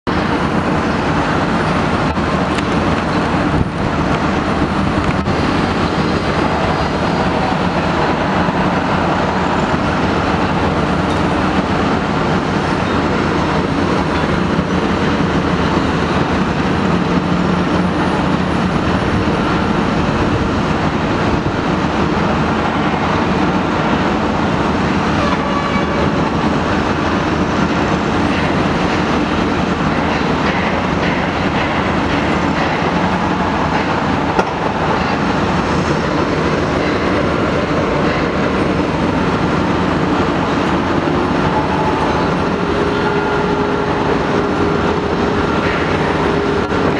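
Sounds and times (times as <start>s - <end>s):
excavator diesel engine running: 0.0s - 46.9s
hydraulics working: 0.1s - 46.9s.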